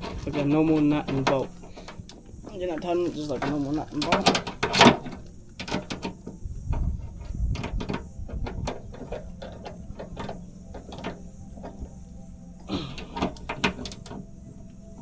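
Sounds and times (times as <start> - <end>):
low rumbling handling noise: 0.0 - 15.0
nut clicking and metallic rattling: 0.0 - 15.0.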